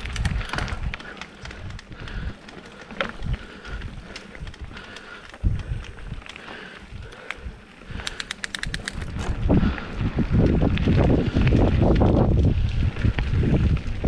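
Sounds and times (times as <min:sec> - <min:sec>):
bike frame rattling: 0:00.0 - 0:14.0
bike tyres rolling over dirt: 0:00.0 - 0:14.0
wind rumbling on microphone: 0:00.0 - 0:14.0.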